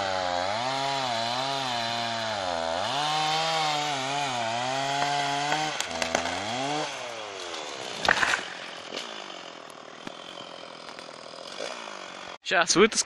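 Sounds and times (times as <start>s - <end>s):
chainsaw cutting wood: 0.0s - 12.4s.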